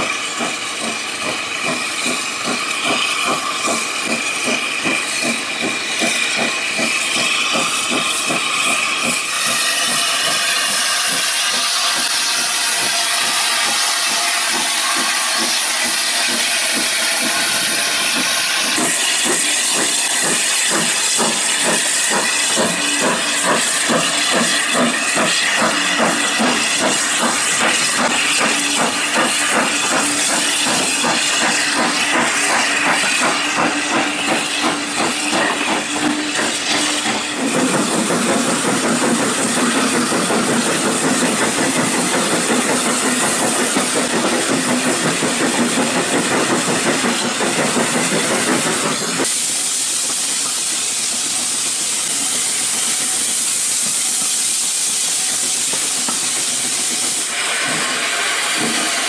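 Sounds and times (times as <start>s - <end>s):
hiss of steam: 0.0s - 59.0s
moving train running: 0.0s - 59.0s
steam locomotive exhaust chuffing: 0.0s - 59.0s.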